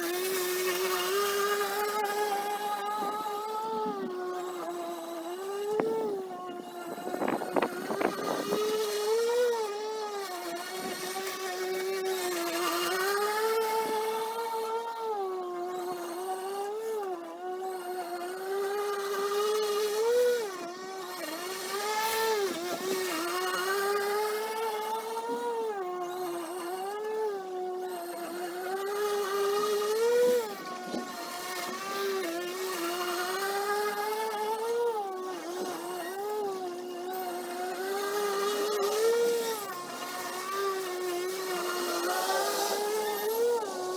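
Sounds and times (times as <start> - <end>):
electric lawn mower cutting grass: 0.0 - 43.9.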